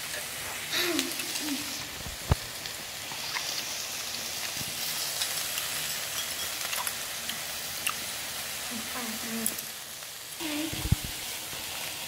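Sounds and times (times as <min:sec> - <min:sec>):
meat and vegetables sizzling: 0:00.0 - 0:12.0
small crackles: 0:00.0 - 0:12.0.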